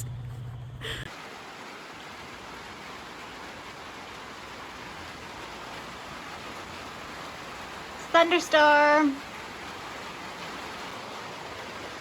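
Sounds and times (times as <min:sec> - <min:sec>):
heavy rain: 0:01.1 - 0:12.0.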